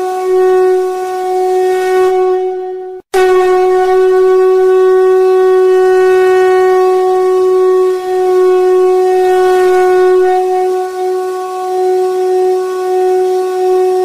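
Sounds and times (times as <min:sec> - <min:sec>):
wind instrument drone: 0:00.0 - 0:14.0.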